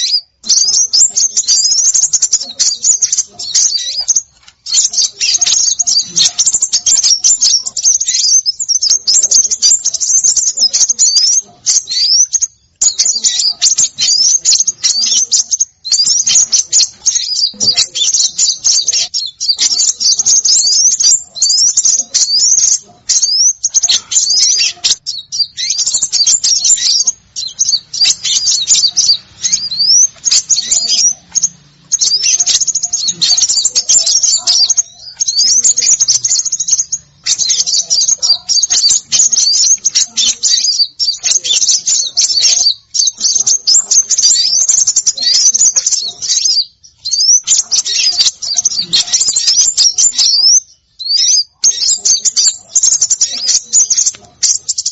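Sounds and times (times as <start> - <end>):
small birds chattering: 0.0 - 54.9.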